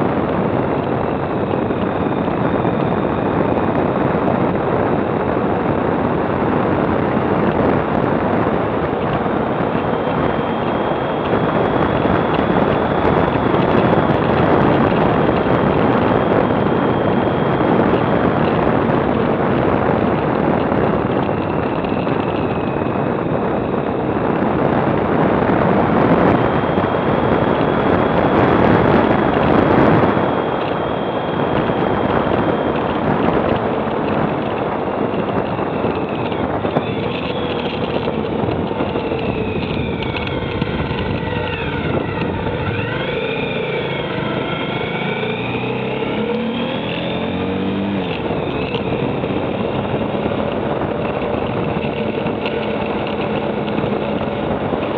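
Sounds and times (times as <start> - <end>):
faint high whine: 0.0 - 54.9
motorcycle engine running: 0.0 - 54.9
wind rushing over microphone: 0.0 - 54.9.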